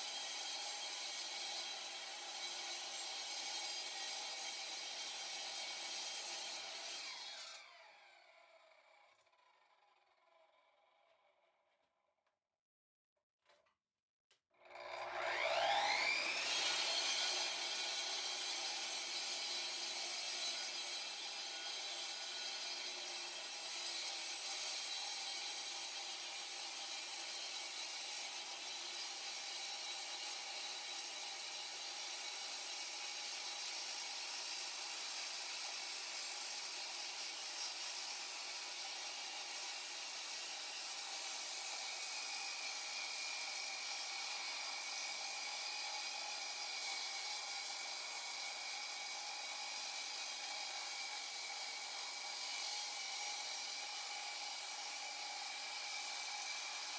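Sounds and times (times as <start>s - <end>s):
concrete saw cutting concrete: 0.0s - 10.0s, 14.6s - 56.9s.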